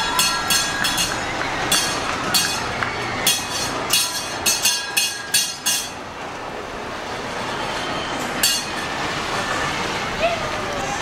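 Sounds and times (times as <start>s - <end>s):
rushing churned water: 0.0s - 11.0s.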